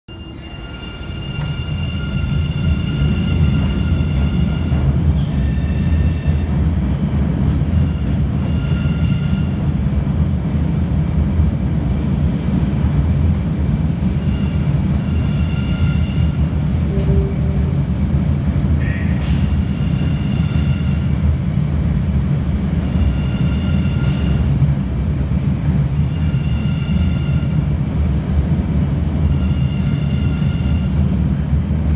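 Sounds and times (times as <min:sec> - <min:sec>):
subway train rumbling: 0:00.1 - 0:31.9.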